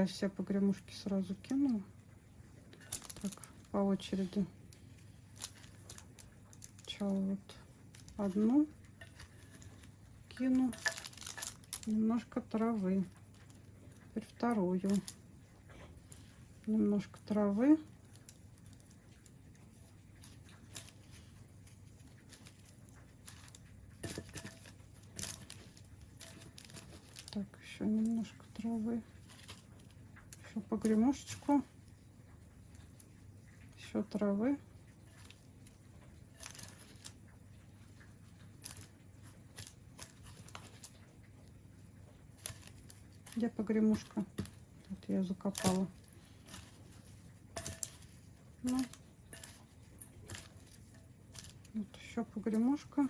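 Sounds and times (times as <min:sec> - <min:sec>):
dried herbs rustling and crackling: 0:00.0 - 0:53.0.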